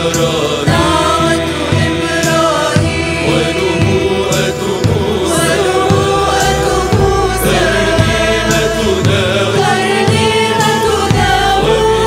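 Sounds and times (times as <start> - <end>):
music backing with slow beat: 0.0 - 12.0
woman singing devotional song: 0.0 - 12.0.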